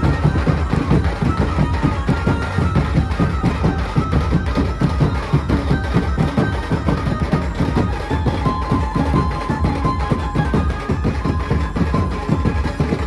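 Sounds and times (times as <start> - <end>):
melody of held notes: 0.0 - 13.0.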